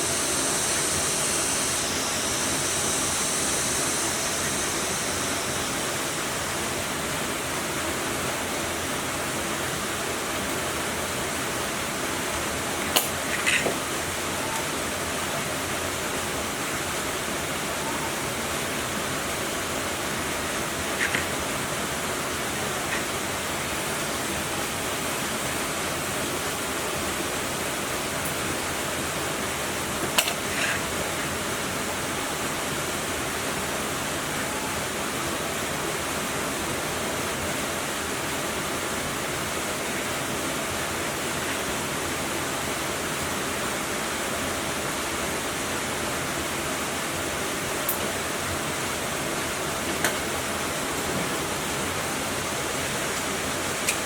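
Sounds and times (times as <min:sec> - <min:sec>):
rushing hiss: 0:00.0 - 0:54.0.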